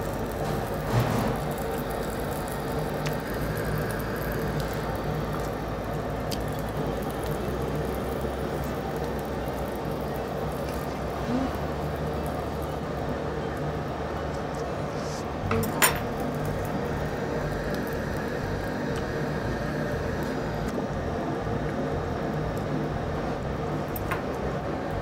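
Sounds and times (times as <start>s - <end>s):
exhaust hood humming: 0.0s - 25.0s.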